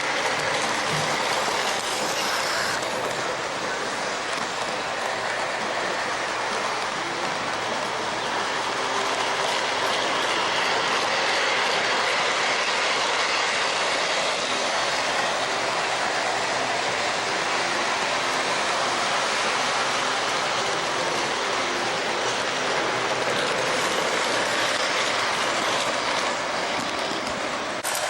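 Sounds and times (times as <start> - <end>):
faint locomotive hum: 0.0 - 28.0
model train wheels rumbling on rails: 0.0 - 28.0.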